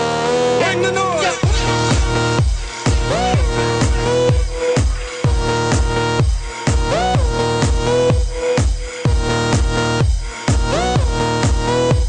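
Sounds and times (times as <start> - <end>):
buzzy synth chords: 0.0 - 12.0
electronic dance music: 0.0 - 12.0
deep kick drum: 1.4 - 12.0.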